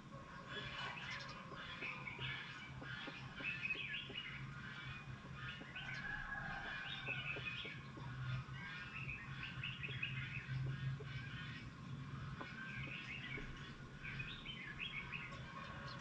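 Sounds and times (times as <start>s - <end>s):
low steady hum: 0.0s - 16.0s
small birds chirping and twittering: 0.0s - 16.0s.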